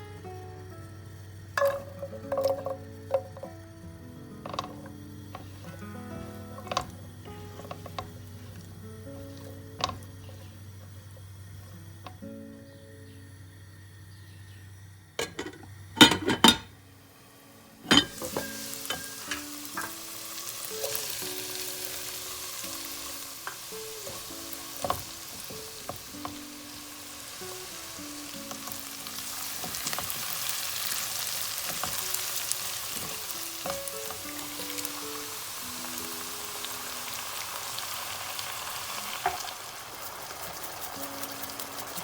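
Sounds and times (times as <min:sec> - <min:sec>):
food sizzling in a pan: 0:00.0 - 0:14.1, 0:14.7 - 0:42.0.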